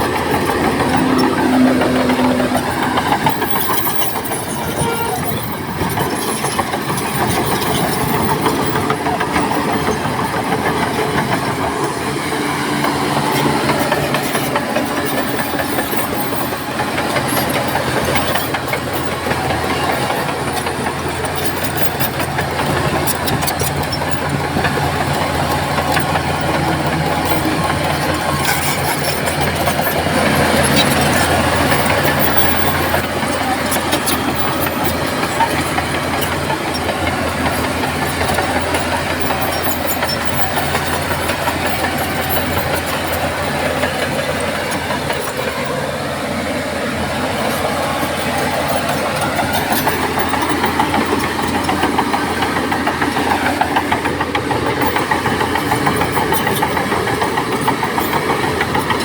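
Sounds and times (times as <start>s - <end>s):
diesel engine under load: 0.0s - 59.0s
steel tracks clanking and squealing: 0.0s - 59.0s.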